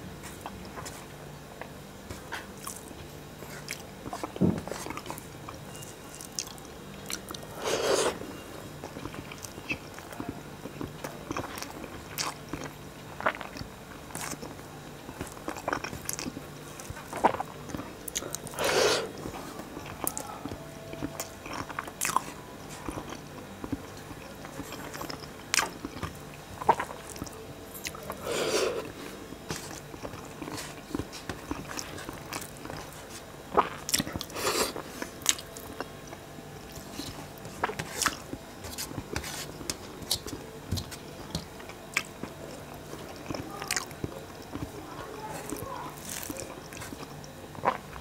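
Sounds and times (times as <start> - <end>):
man chewing food: 0.2 - 48.0.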